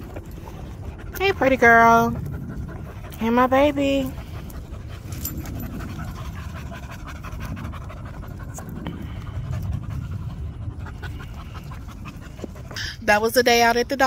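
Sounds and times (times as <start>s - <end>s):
dogs panting: 0.0s - 14.0s.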